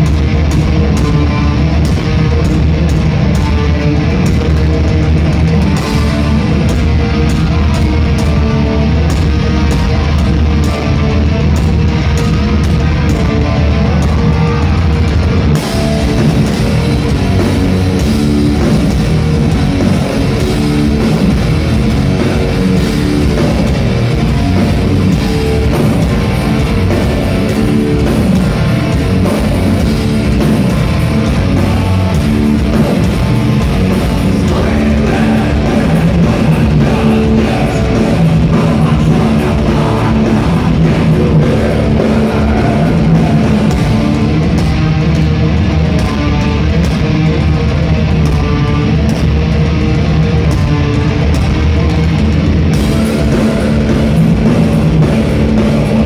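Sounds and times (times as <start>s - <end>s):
heavy metal band playing live: 0.0s - 56.0s.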